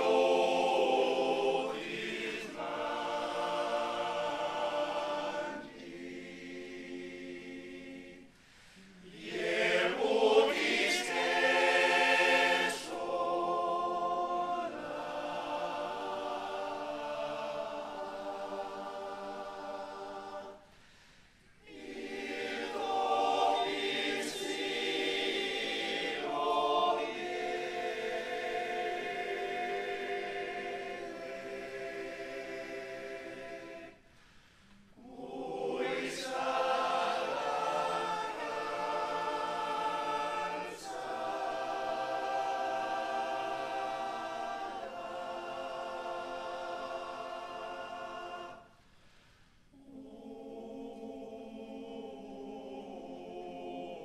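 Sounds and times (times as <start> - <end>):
men's choir singing a cappella: 0.0 - 8.3, 8.9 - 20.6, 21.6 - 34.1, 35.0 - 48.8, 49.7 - 54.0.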